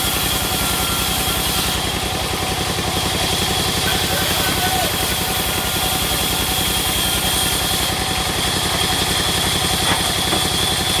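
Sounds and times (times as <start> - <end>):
band saw low chugging: 0.0 - 11.0.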